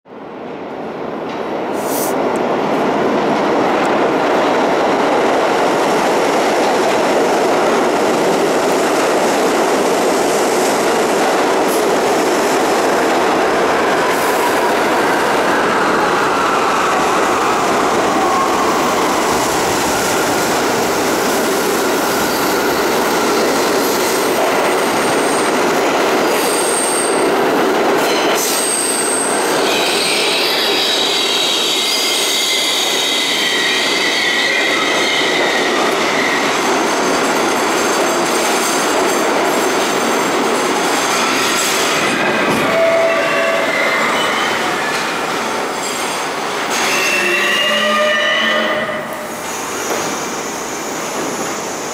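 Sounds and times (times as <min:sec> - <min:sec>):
train wheels rumbling on rails: 0:01.1 - 0:51.9.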